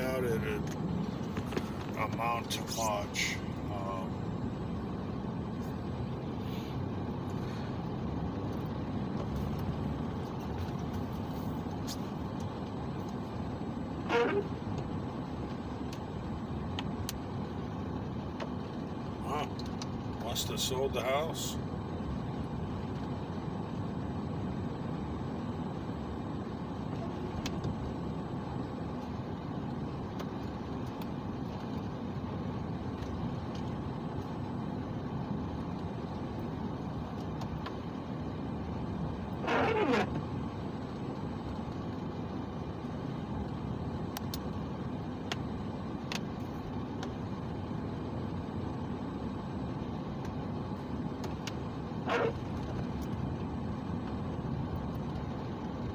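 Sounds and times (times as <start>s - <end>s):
car cabin road noise: 0.0s - 55.9s.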